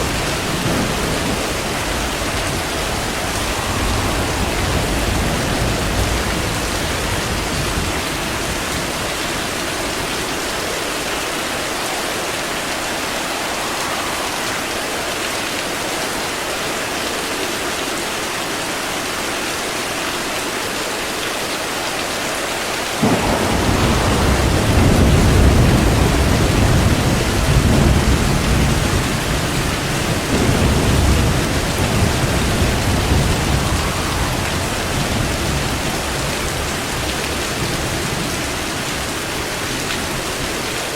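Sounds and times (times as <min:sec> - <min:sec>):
thunder rumbling: 0:00.0 - 0:16.2, 0:23.0 - 0:40.4
heavy rain falling: 0:00.0 - 0:40.9.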